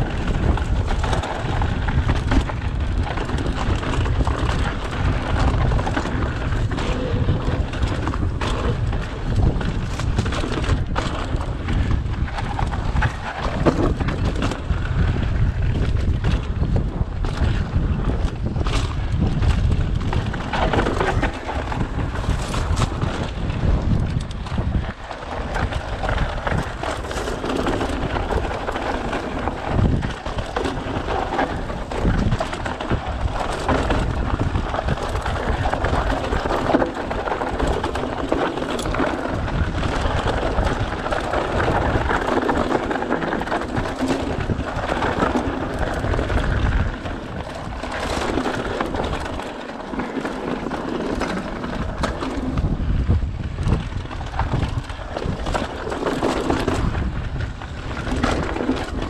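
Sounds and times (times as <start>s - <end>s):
bike rattling: 0.0s - 59.0s
tyres crunching over stones: 0.0s - 59.0s
wind buffeting microphone: 0.0s - 59.0s.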